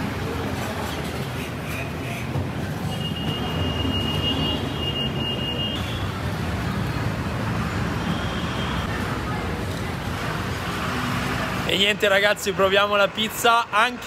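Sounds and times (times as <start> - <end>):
passing vehicles rumbling: 0.0 - 14.0.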